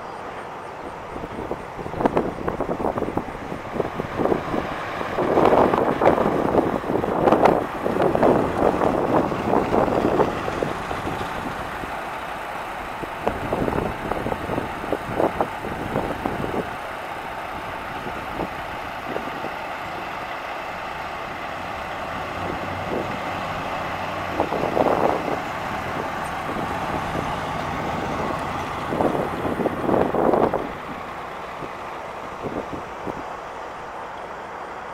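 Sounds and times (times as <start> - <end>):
road noise: 0.0 - 34.9
truck engine driving past: 0.0 - 34.9.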